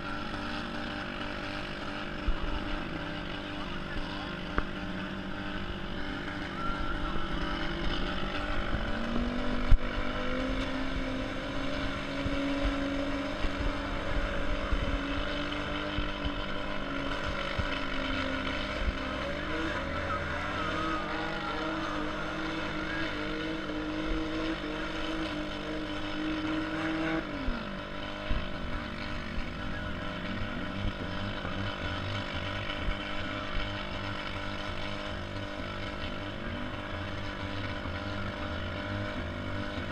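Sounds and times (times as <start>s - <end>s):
car engines running: 0.0s - 39.9s.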